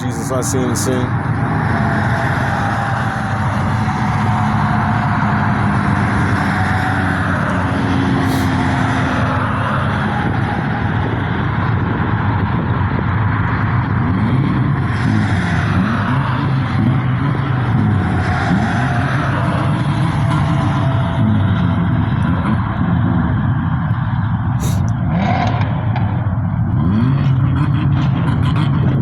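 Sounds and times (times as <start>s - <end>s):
car engines droning: 0.0s - 29.0s
car engines revving: 0.0s - 29.0s.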